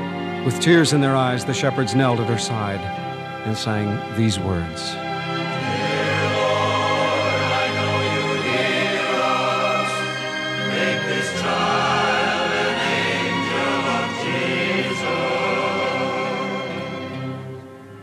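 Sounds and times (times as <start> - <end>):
choir singing a carol: 0.0 - 18.0.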